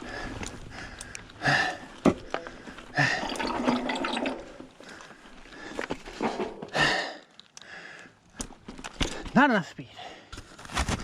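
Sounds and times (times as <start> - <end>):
bike tyres on rock and dirt: 0.0 - 9.5
rider breathing hard: 0.0 - 10.7.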